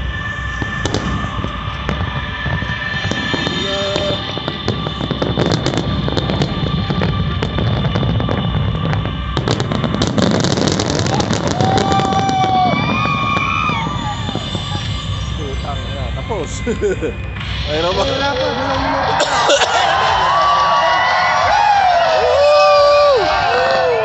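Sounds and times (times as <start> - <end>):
background music: 0.0 - 24.0
fireworks bursting and crackling: 0.0 - 24.0.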